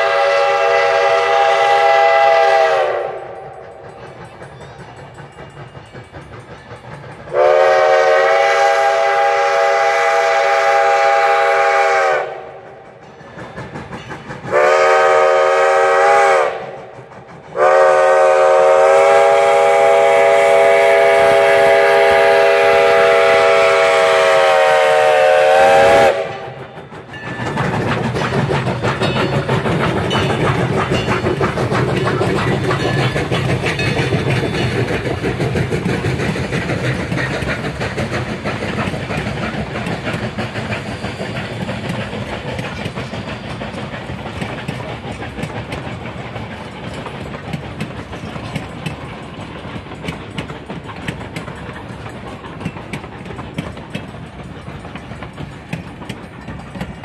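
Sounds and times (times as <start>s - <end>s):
steam locomotive chime whistle: 0.0s - 27.8s, 38.2s - 57.0s
rail clatter: 0.0s - 57.0s
steam train exhaust: 0.0s - 57.0s.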